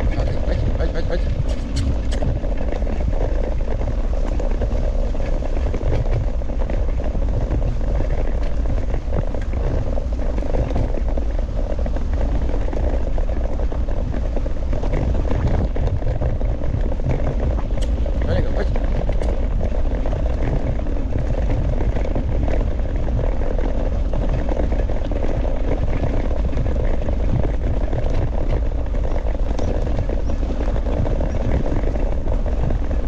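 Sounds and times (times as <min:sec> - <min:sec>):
wheels rolling over dirt: 0:00.0 - 0:33.0
wind on microphone: 0:00.0 - 0:33.0.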